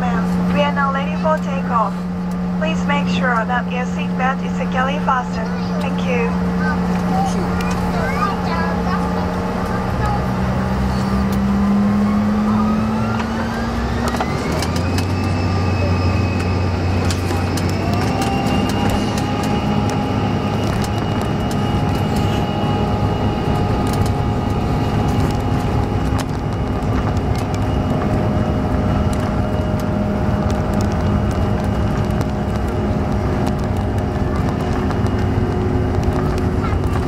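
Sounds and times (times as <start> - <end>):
jet engine whine and rumble: 0.0 - 37.0.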